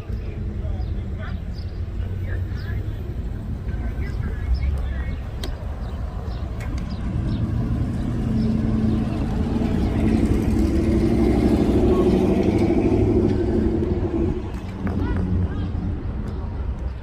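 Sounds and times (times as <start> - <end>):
locomotive engines rumbling: 0.0 - 17.0.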